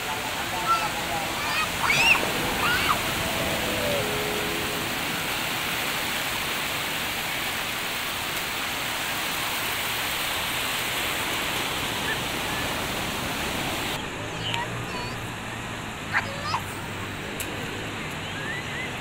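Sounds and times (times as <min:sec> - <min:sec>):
sea surf on sandy beach: 0:00.0 - 0:19.0.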